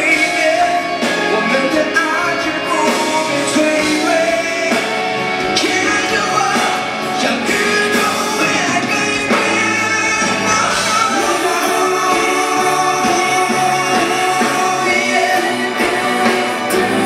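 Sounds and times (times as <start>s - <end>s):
man singing into a microphone: 0.0s - 17.0s
pop-rock band playing: 0.0s - 17.0s.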